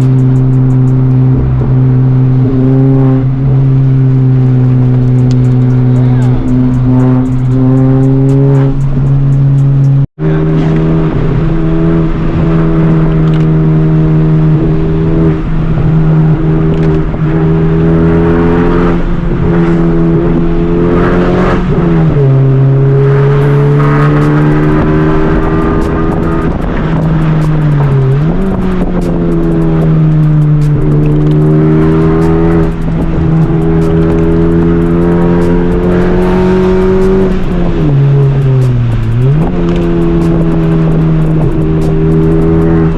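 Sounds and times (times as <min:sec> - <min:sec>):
car engine running hard: 0:00.0 - 0:42.9.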